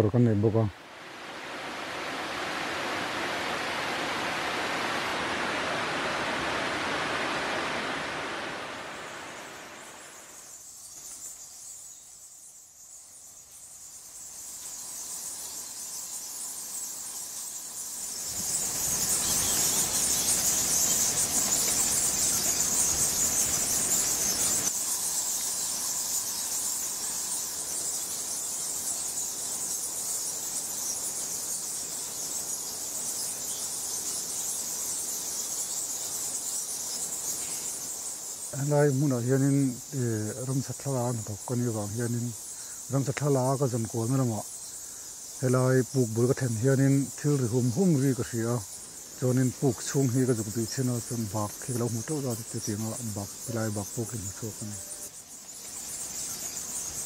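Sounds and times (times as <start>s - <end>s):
bats squeaking and chittering: 9.8s - 57.0s.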